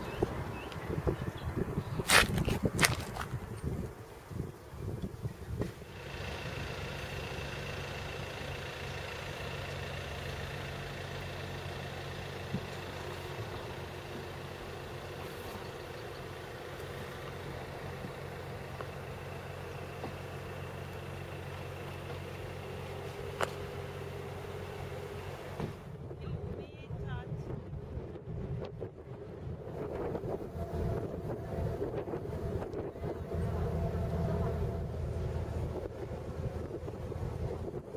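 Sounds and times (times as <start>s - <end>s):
vehicle engine idling: 0.0s - 26.1s, 29.1s - 37.9s.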